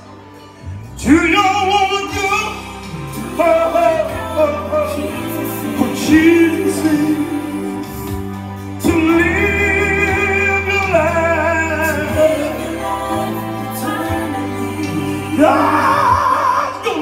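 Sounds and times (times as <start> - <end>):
recorded backing track: 0.0 - 17.0
man singing gospel into microphone: 1.0 - 17.0.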